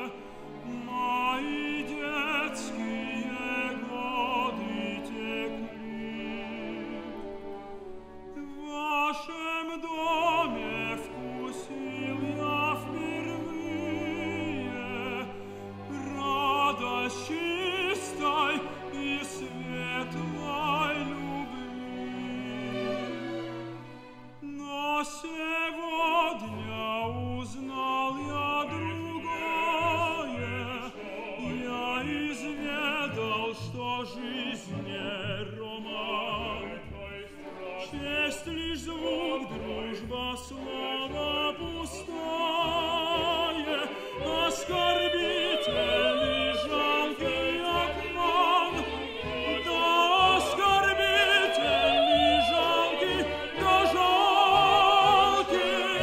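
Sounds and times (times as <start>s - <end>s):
operatic singing with vibrato: 0.0s - 56.0s
symphony orchestra: 0.0s - 56.0s.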